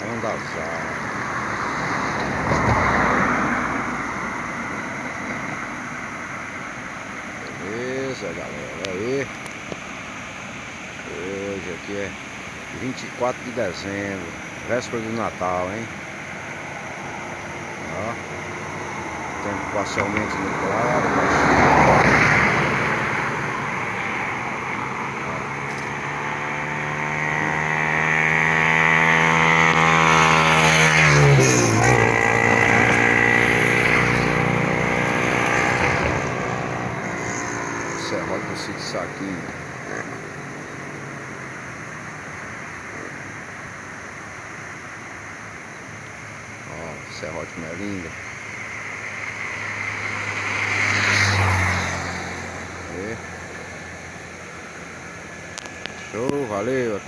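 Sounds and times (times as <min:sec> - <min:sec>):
vehicle passing by: 0:00.0 - 0:09.3, 0:09.9 - 0:43.7, 0:45.9 - 0:57.0.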